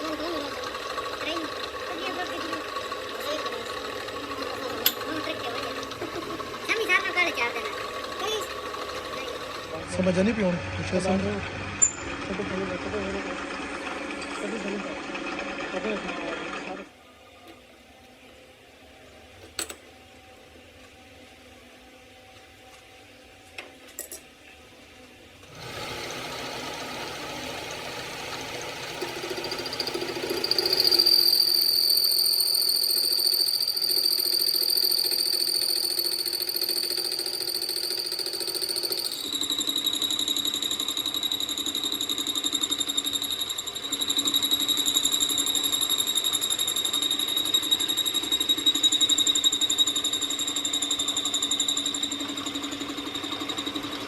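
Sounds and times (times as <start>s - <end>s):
machine high whine: 0.0s - 16.9s, 25.4s - 54.0s.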